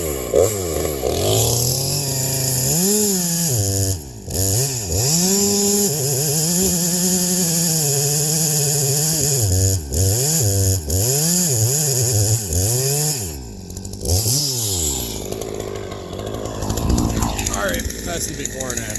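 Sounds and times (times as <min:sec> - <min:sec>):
chainsaw engine revving: 0:00.0 - 0:18.9.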